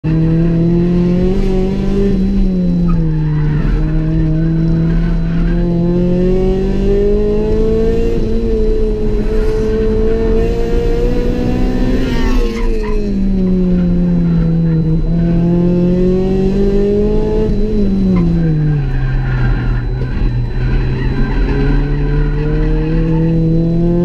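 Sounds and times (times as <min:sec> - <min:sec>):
car engine at high revs: 0:00.0 - 0:24.0.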